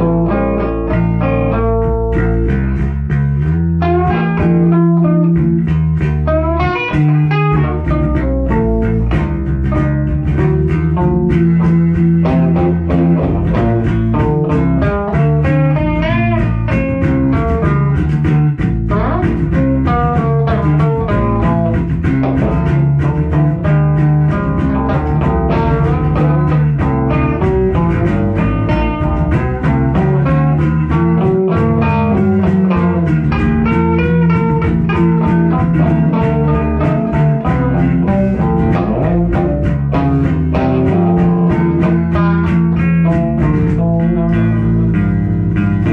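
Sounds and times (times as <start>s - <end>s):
bass guitar line: 0.0s - 45.9s
lead electric guitar bending notes: 0.0s - 45.9s.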